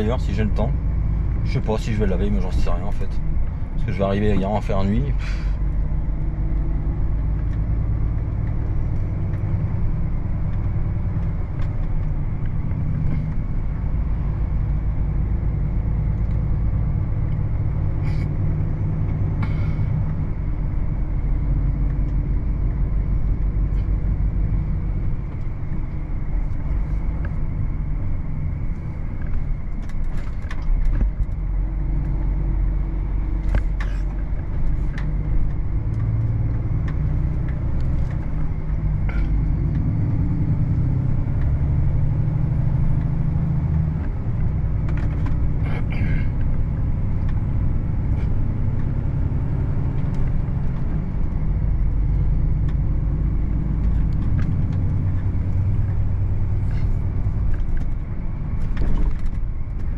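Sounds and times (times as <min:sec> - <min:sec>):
road noise: 0:00.0 - 0:59.9
truck diesel engine drone: 0:00.0 - 0:59.9.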